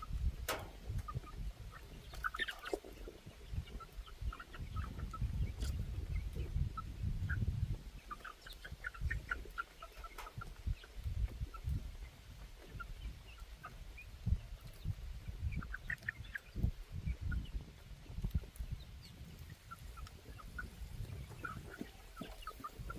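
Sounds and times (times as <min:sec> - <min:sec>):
chickens clucking and chirping: 0:00.0 - 0:22.9.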